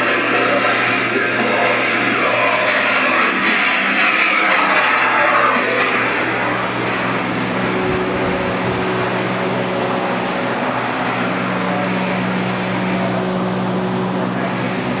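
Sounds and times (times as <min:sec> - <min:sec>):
ventilation fans humming: 0:00.0 - 0:15.0.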